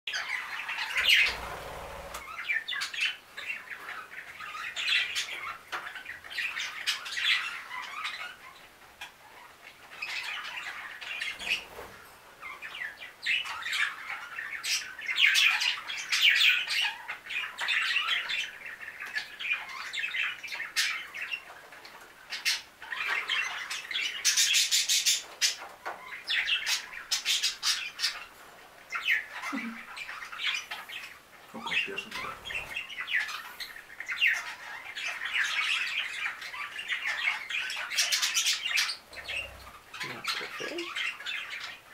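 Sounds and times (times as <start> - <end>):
budgerigars chirping and squawking: 0.1 - 41.9.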